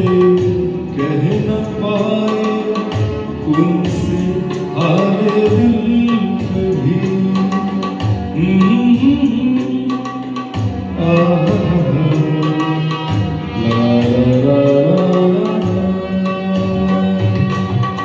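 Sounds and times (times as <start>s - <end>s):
tabla: 0.0s - 18.0s.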